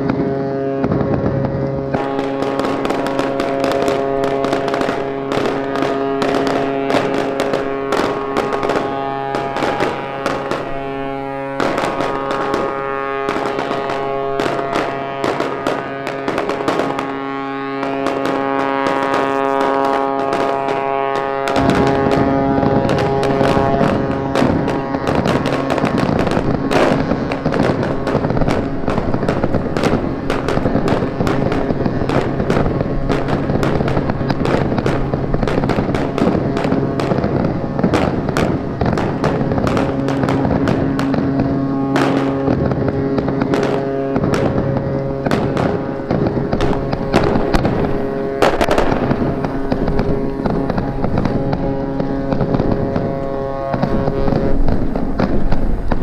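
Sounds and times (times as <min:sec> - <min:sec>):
firecrackers crackling and popping: 0:00.0 - 0:56.0.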